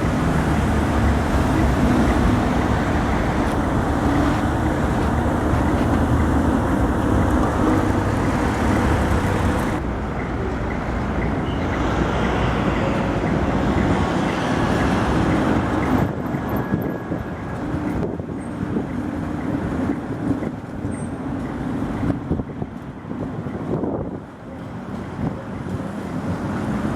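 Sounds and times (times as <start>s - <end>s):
street traffic: 0.0s - 26.9s
tram rumble and hum: 0.0s - 26.9s.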